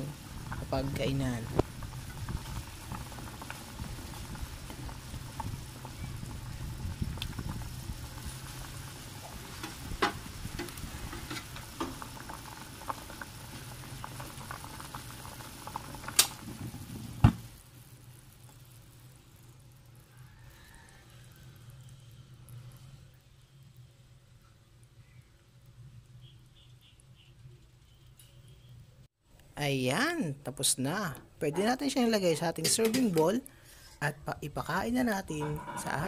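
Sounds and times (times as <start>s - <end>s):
broth boiling in a pot: 0.0s - 36.0s.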